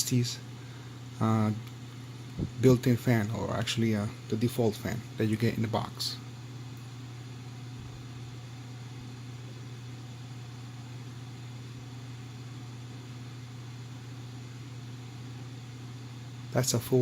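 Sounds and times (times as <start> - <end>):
cooling fan rushing air: 0.0 - 17.0.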